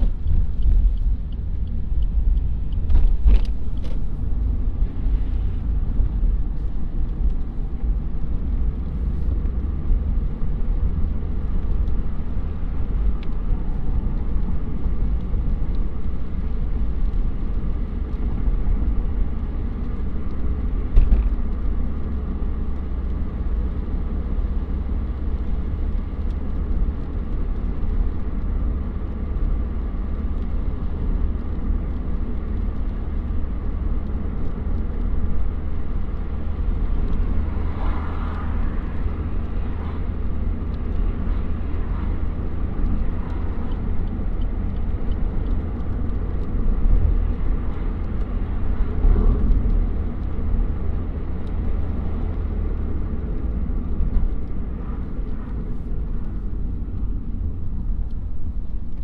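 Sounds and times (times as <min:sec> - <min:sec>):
car engine rumble: 0:00.0 - 0:59.0
tyres on wet road: 0:00.0 - 0:59.0.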